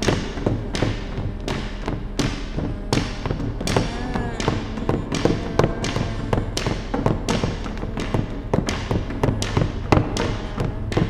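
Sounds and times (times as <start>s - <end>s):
low held drone: 0.0s - 11.0s
percussion hits: 0.0s - 11.0s.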